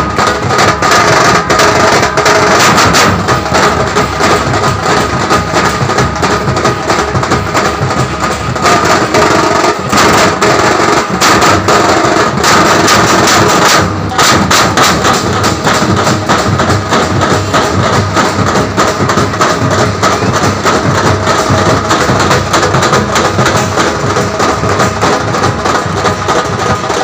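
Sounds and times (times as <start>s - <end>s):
fast dense drumming: 0.0s - 27.0s.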